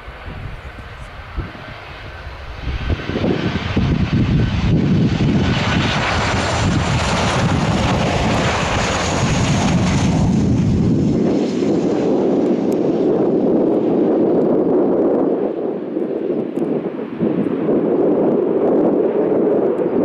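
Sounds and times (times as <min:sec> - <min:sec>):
jet engines passing low: 0:00.0 - 0:20.0.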